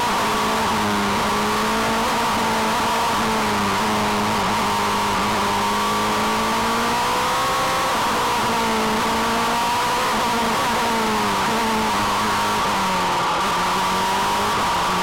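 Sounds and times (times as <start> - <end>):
race car engine running hard: 0.0 - 15.0
wind and road noise: 0.0 - 15.0.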